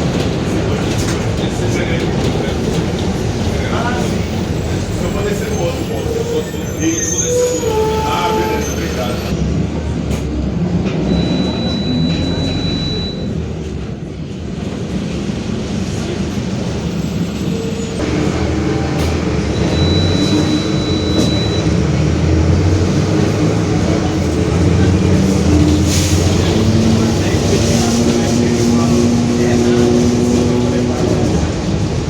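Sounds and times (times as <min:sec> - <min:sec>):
bus diesel engine driving: 0:00.0 - 0:32.0.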